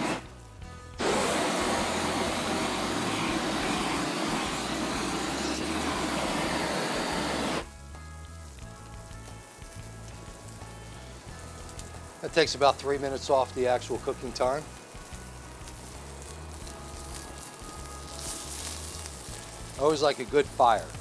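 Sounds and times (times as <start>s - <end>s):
blowtorch flame blowing: 0.0s - 7.8s, 8.5s - 21.0s.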